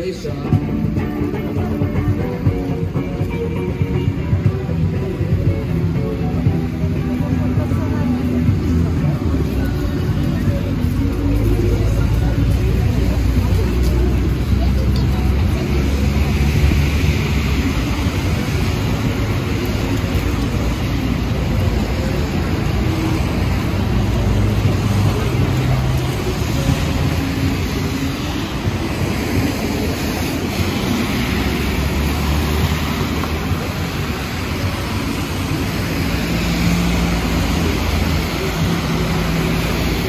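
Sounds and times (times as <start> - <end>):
traffic on wet road: 0.0 - 40.0.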